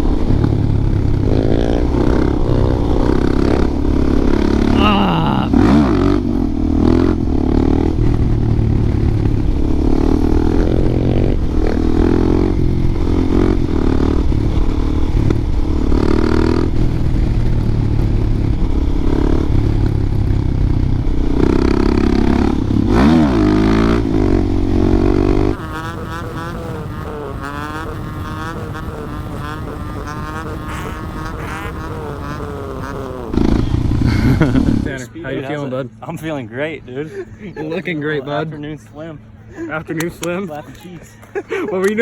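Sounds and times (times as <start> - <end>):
motorcycle engine revving: 0.0 - 36.8.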